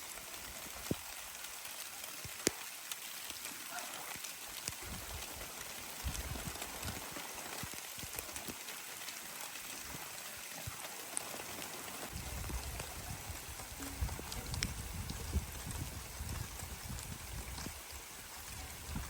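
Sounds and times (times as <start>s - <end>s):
rain falling: 0.0s - 19.0s
water drips: 0.0s - 19.0s.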